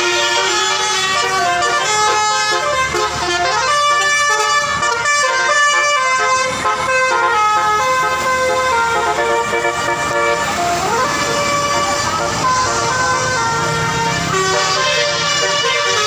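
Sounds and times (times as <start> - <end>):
bus horn playing a tune: 0.0 - 16.0.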